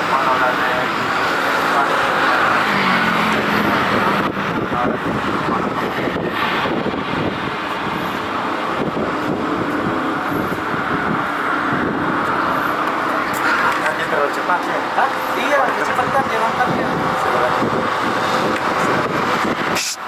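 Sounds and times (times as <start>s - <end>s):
jet engine roar: 0.0s - 19.8s.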